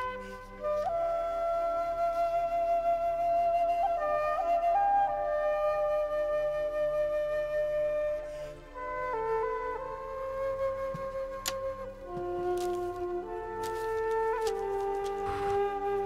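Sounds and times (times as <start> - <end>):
flute slow melody: 0.0 - 16.0
soft lower accompaniment: 0.0 - 16.0.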